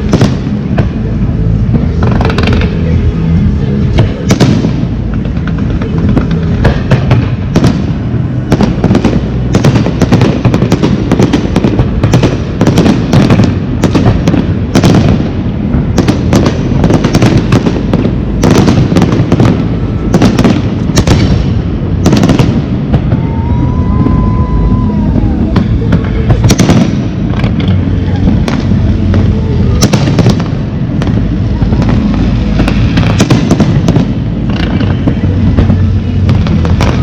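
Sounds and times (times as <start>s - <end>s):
firework whistling: 0.0s - 37.0s
fireworks bangs and crackles: 0.0s - 37.0s
low rumble of bursting shells: 0.0s - 37.0s.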